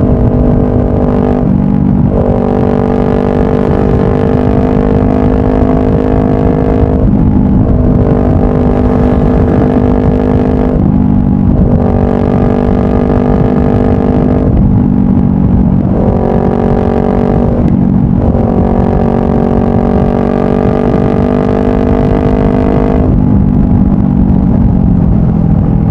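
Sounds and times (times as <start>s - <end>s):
motorcycle engine riding: 0.0s - 25.9s
wind rumble on microphone: 0.0s - 25.9s.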